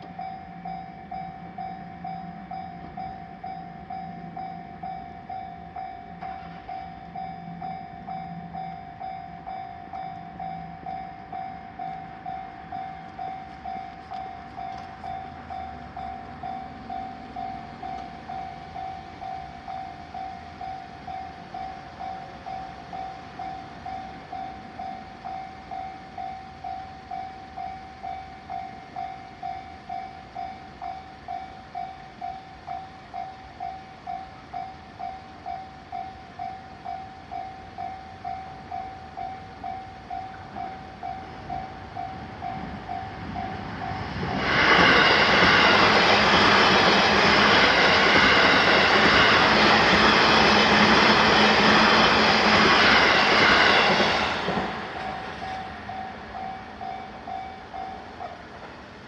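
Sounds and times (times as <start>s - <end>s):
level-crossing bell ringing: 0.0s - 58.6s
train rushing past: 0.0s - 59.0s.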